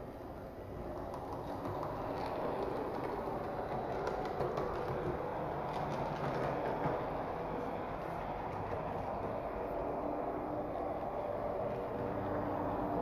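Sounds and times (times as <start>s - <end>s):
model train running on rails: 0.0s - 13.0s.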